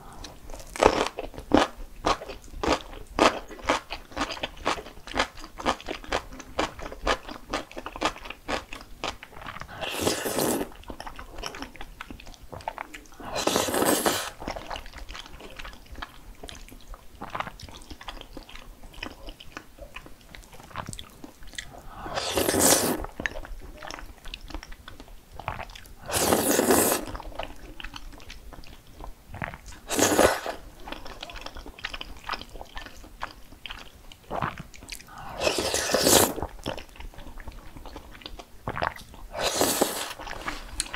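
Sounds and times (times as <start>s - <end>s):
crunching and chewing: 0.1s - 40.9s.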